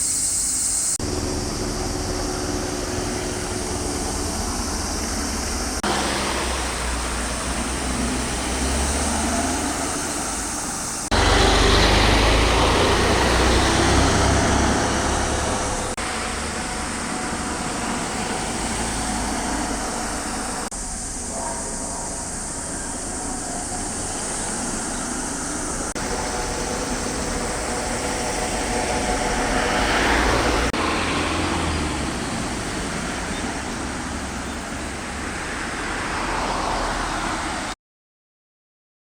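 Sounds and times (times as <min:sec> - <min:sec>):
traffic rumble: 0:00.0 - 0:37.8.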